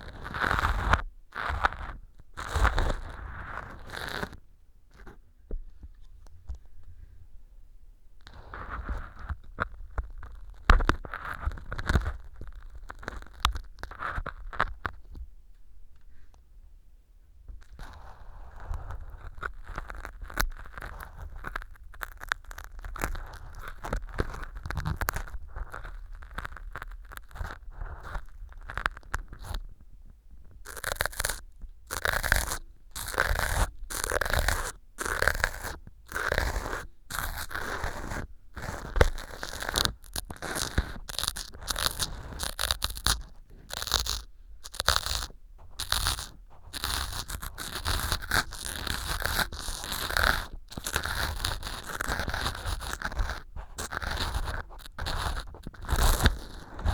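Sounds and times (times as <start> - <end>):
ear pick scraping and crunching foam: 0.0 - 5.2, 8.3 - 15.1, 17.6 - 29.8, 30.5 - 56.9.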